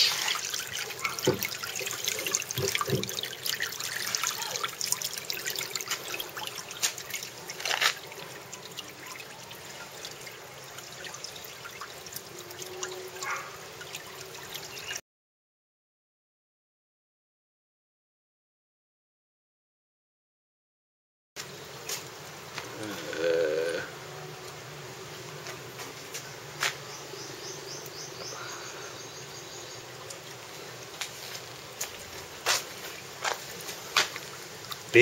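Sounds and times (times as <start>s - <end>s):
water trickling and splashing: 0.0s - 15.0s, 21.4s - 35.0s.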